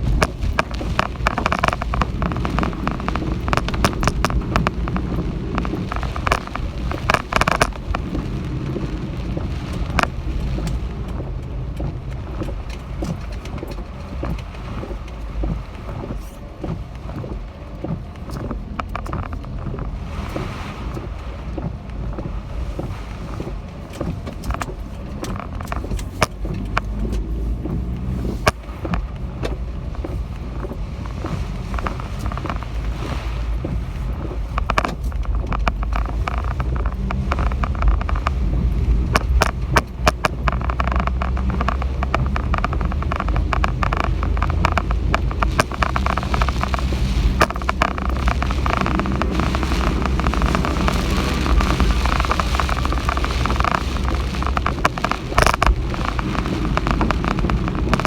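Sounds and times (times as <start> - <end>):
sharp clicks and taps: 0.0 - 20.5, 21.5 - 58.0
wind buffeting microphone: 0.0 - 58.0.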